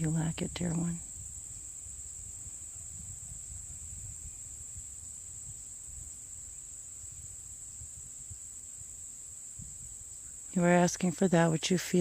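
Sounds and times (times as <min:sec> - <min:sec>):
faint low rumble: 0:00.0 - 0:12.0
insect high-pitched trill: 0:00.0 - 0:12.0.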